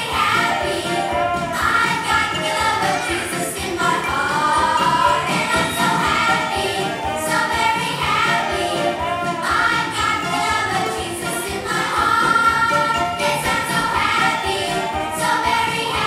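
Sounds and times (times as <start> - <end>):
group singing over backing music: 0.0 - 16.0.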